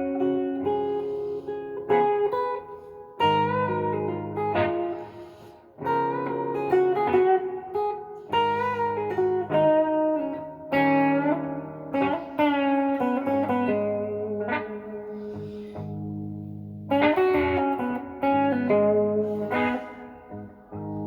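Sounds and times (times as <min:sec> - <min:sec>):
electric guitar playing blues: 0:00.0 - 0:21.0.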